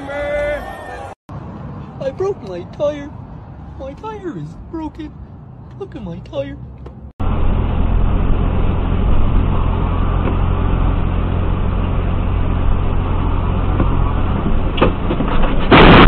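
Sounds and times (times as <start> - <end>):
engine and tyre rumble: 0.0 - 16.0.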